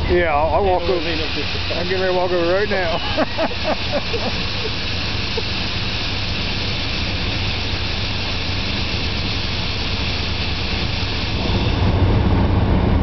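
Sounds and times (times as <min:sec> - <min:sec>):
air compressor running: 0:00.0 - 0:13.0.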